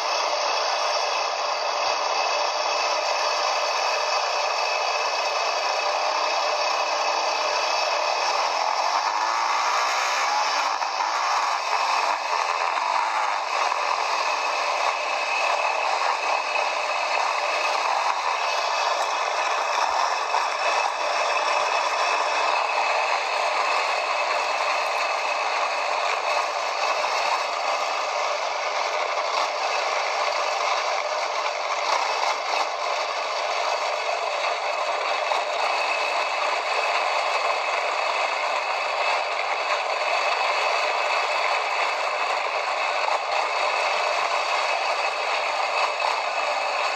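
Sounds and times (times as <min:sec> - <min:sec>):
quad bike rattling and rushing: 0:00.0 - 0:46.9.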